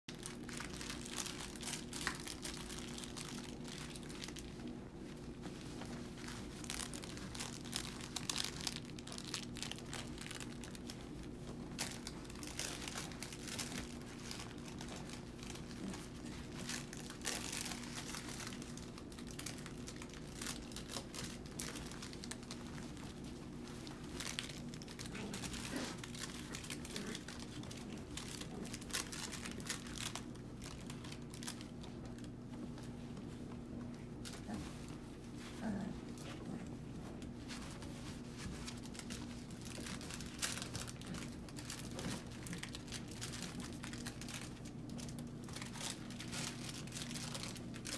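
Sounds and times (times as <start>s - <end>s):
puppies rustling training pads: 0.1s - 47.9s
steady low hum: 0.1s - 47.9s.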